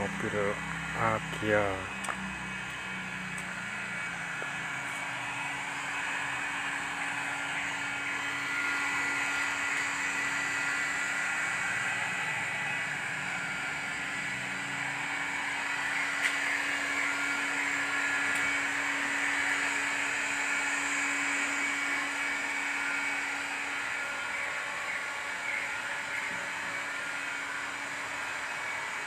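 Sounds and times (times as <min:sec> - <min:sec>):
heat gun blowing: 0:00.0 - 0:29.0.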